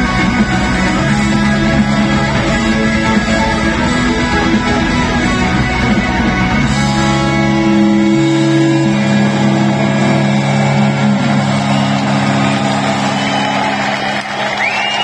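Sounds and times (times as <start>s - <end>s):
large crowd cheering: 0.0s - 15.0s.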